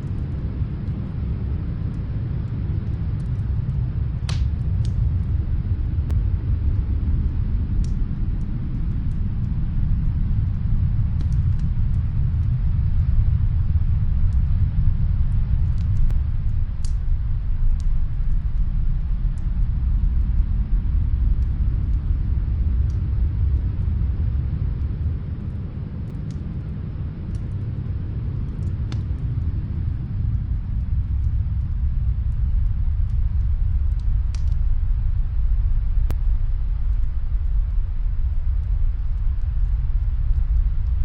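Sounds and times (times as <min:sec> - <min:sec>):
faint wood fire crackles: 0:00.0 - 0:41.0
wind rumbling: 0:00.0 - 0:41.0.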